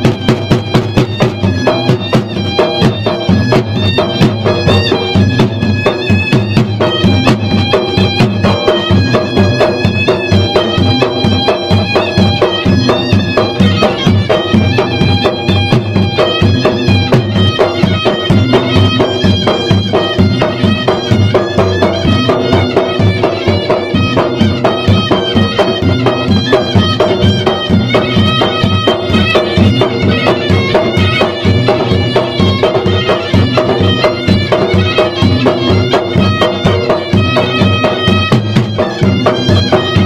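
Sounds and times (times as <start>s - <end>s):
drums beating fast rhythm: 0.0s - 40.0s
shrill reed pipe melody: 0.0s - 40.0s.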